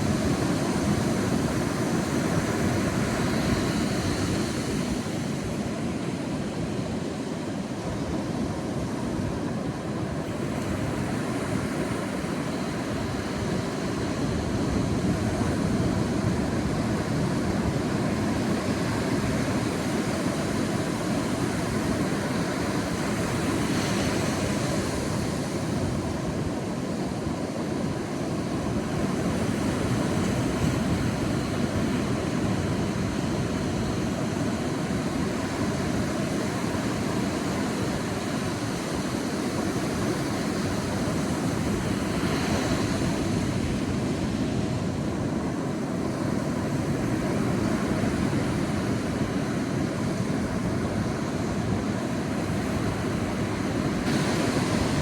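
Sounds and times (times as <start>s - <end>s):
sea waves on a beach: 0.0s - 55.0s.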